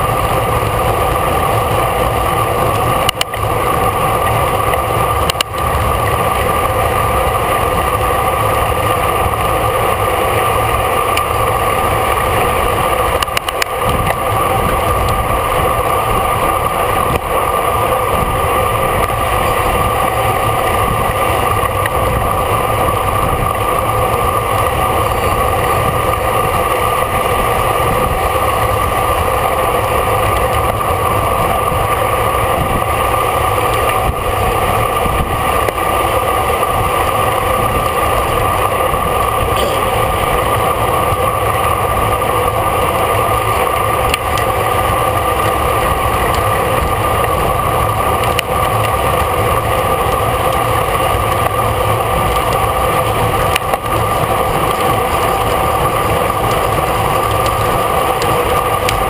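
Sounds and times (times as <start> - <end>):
road noise: 0.0 - 59.0
steady hum: 0.0 - 59.0.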